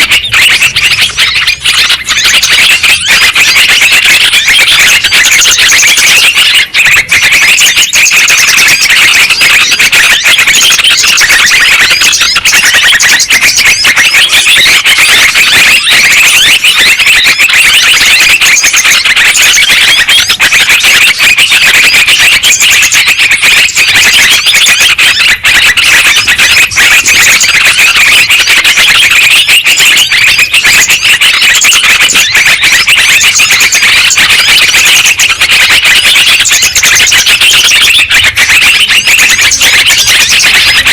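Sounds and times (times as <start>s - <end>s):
bulbuls chattering: 0.0s - 40.9s.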